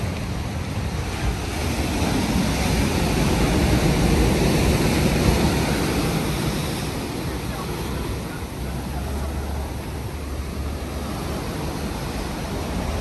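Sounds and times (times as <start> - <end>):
ocean wave rushing: 0.0 - 13.0.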